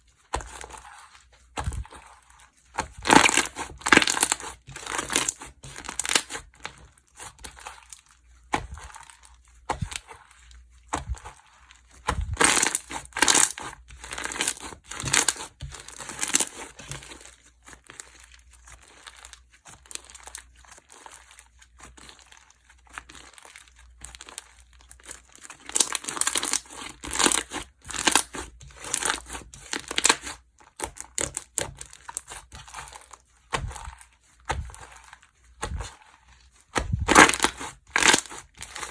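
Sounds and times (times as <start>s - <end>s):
slime crackling and popping: 0.3s - 10.1s, 11.0s - 36.1s, 36.7s - 38.9s.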